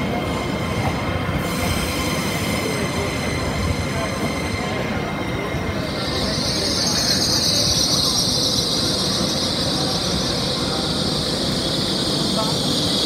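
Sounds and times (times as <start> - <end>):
train moving slowly: 0.0 - 13.0.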